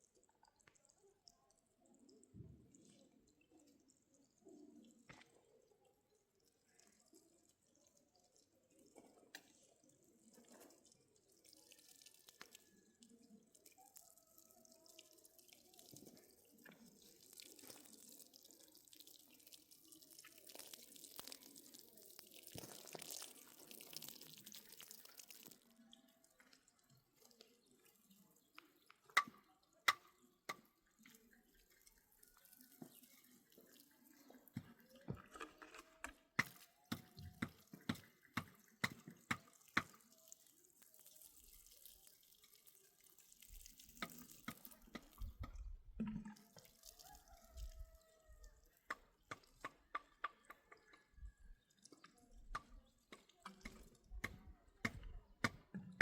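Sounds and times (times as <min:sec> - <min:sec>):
water dripping and trickling: 0:00.0 - 0:56.0.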